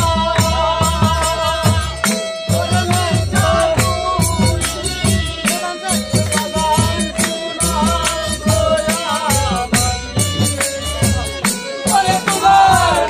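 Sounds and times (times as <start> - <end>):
jingling percussion: 0.0 - 13.0.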